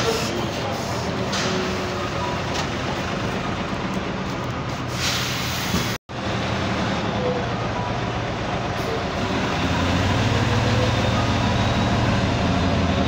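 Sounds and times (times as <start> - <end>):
bus engines droning: 0.0 - 13.0.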